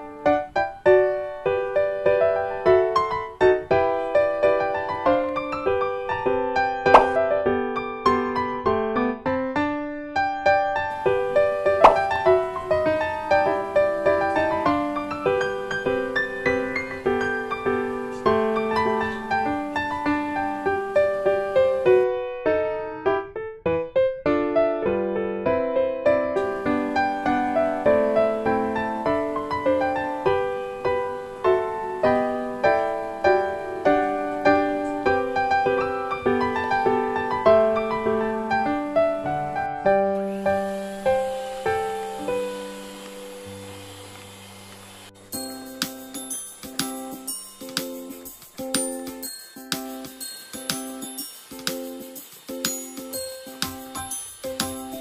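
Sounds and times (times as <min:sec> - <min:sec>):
gentle piano music: 0:00.0 - 0:55.0.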